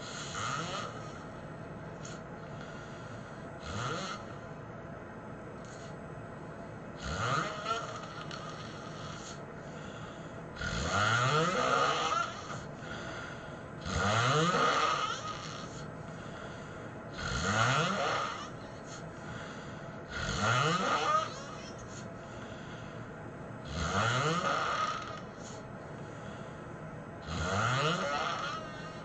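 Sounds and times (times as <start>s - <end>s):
man snoring: 0.0s - 1.3s, 2.0s - 4.5s, 7.0s - 22.9s, 23.6s - 25.6s, 27.2s - 29.0s.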